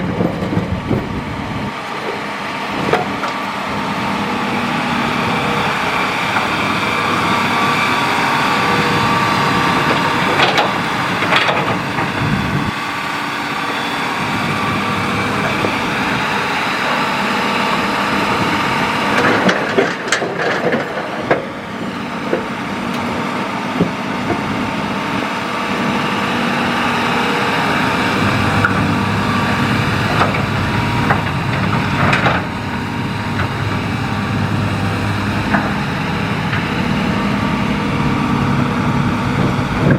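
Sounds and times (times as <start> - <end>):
excavator engine and hydraulic whine: 0.0 - 39.9.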